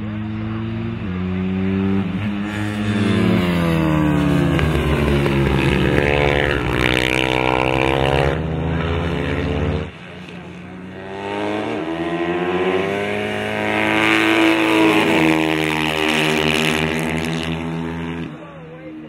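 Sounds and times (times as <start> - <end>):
motorcycles passing: 0.0 - 19.0.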